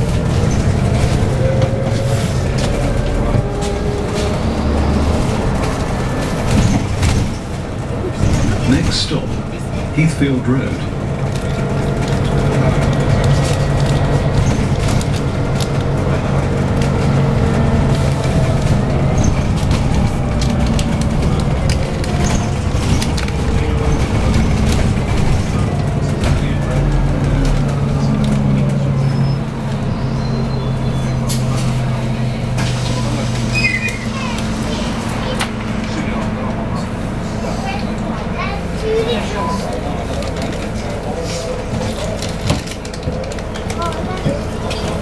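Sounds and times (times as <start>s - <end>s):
bus engine running: 0.0s - 45.0s.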